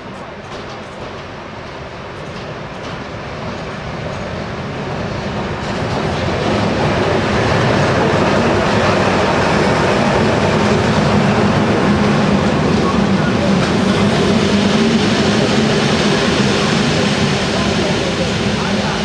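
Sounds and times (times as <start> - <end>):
diesel locomotive engine passing: 0.0 - 19.0
train coaches rolling past: 0.0 - 19.0.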